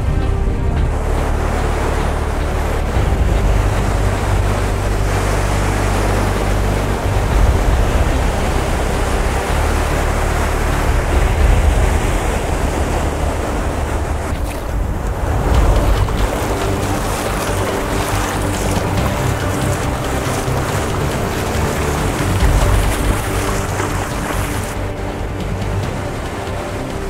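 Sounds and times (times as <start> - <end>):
surf breaking on shore: 0.0 - 27.0
wind rumbling on microphone: 0.0 - 27.0.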